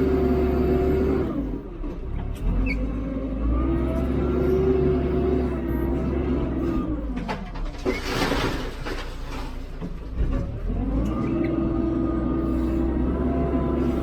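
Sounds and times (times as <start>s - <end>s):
diesel engine running: 0.0s - 7.8s, 8.5s - 14.0s.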